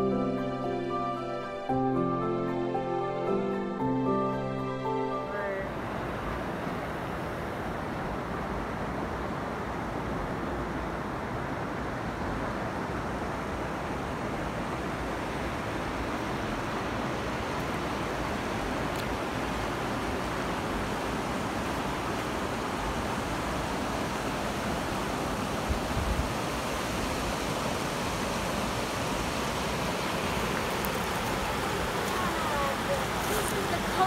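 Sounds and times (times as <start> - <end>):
river rushing over rocks: 0.0 - 34.0.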